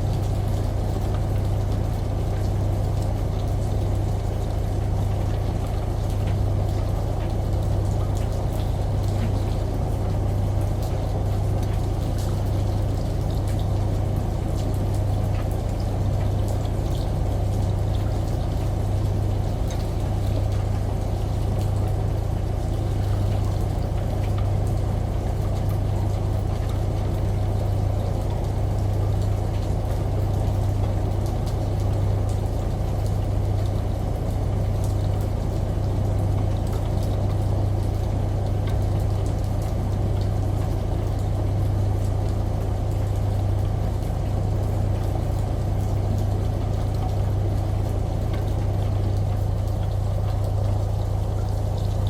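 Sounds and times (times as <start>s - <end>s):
faint drip-like ticks: 0.0s - 52.0s
washing machine humming: 0.0s - 52.0s.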